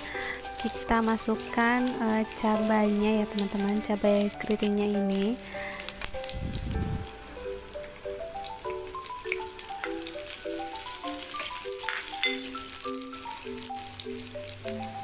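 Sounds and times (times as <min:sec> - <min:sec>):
background music: 0:00.0 - 0:15.0
food sizzling in hot oil: 0:00.0 - 0:15.0.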